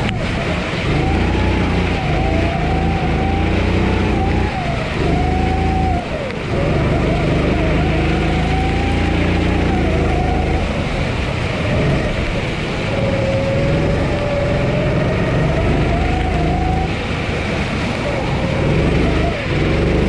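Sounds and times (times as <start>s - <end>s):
kart engine running: 0.0s - 20.0s.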